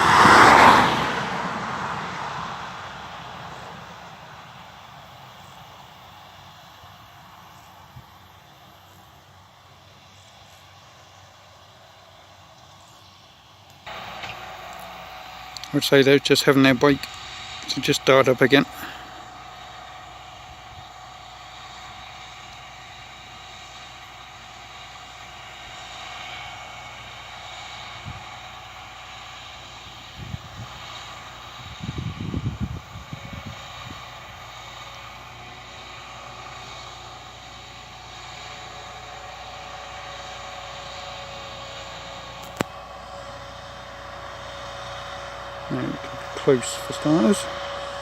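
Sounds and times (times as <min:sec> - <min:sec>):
combine harvester mechanical drone: 0:00.0 - 0:48.0.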